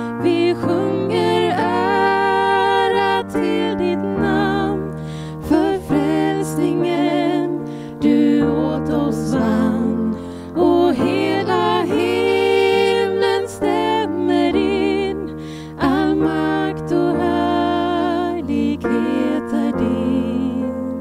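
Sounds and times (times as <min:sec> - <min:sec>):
person singing with vibrato: 0:00.0 - 0:21.0.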